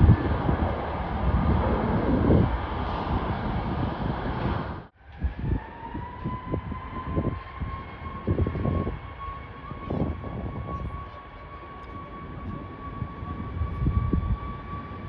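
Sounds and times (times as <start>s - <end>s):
high-pitched jet engine whine: 0.0s - 15.0s
jet airliner engine noise: 0.0s - 15.0s
wind on microphone: 0.0s - 15.0s.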